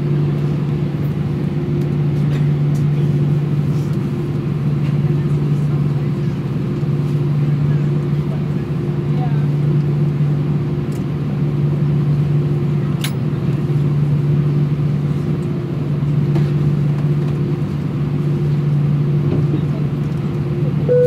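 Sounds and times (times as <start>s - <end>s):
jet engines idling hum: 0.0s - 21.0s.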